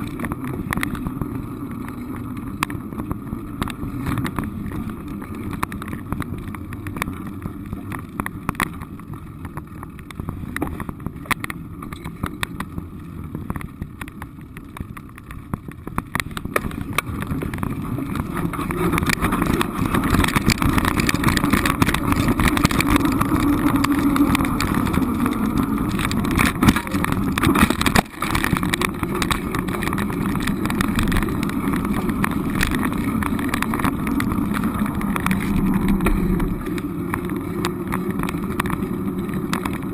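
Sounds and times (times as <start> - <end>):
vehicle running with road noise: 0.0 - 39.9.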